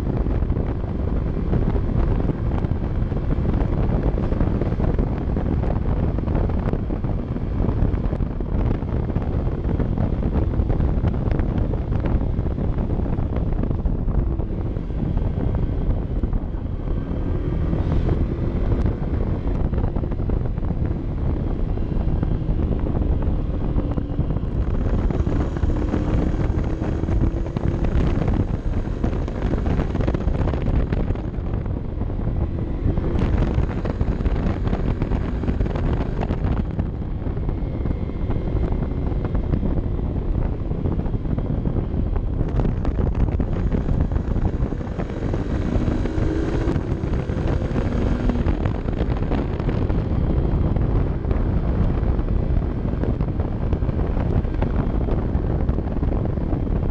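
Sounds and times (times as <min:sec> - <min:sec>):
faint motorcycle engine: 0:00.0 - 0:56.9
wind rushing over microphone: 0:00.0 - 0:56.9.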